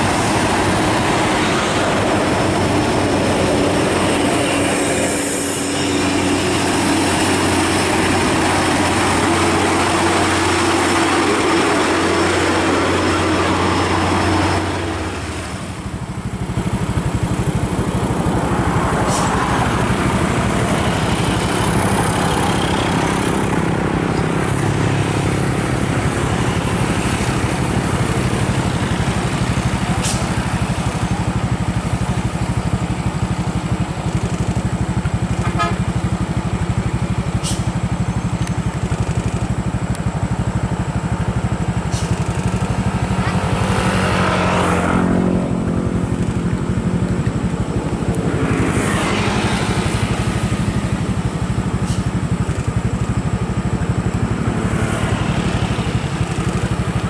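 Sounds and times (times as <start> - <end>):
diesel truck engines droning: 0.0 - 57.0.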